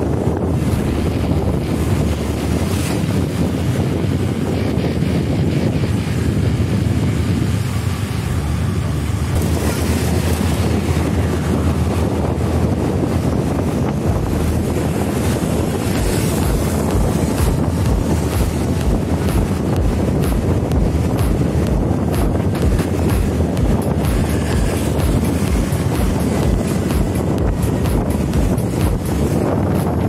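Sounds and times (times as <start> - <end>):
low rumble: 0.0 - 30.0
wind buffeting microphone: 0.0 - 30.0.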